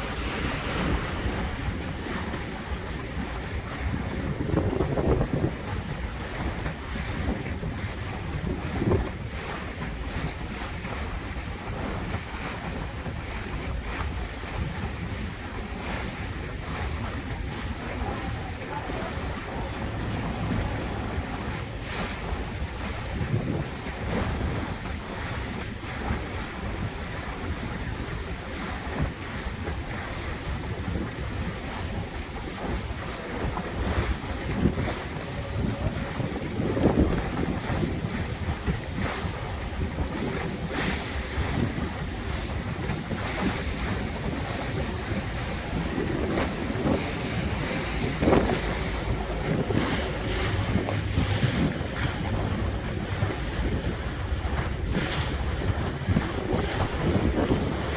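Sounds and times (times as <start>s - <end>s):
water rushing along boat: 0.0s - 57.9s
wind buffeting microphone: 0.0s - 57.9s.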